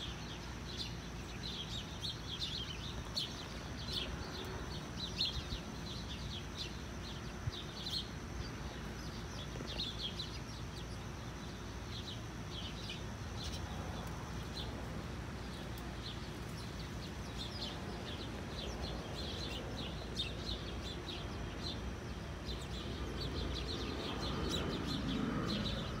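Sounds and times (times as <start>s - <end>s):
low background noise: 0.0s - 26.0s
small birds chirping: 0.0s - 26.0s.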